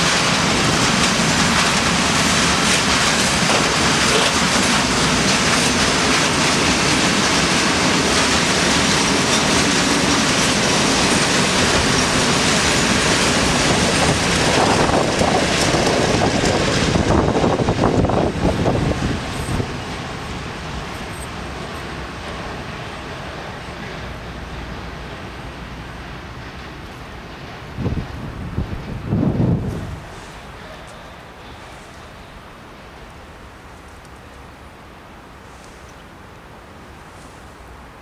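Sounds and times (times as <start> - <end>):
freight wagons rattling past: 0.0 - 30.8.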